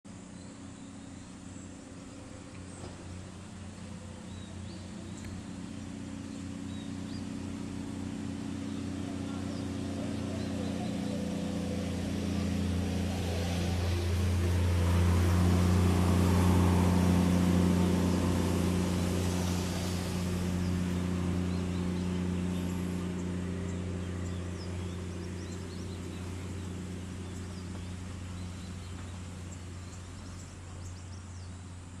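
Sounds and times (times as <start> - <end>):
excavator diesel engine droning: 1.4 - 32.0.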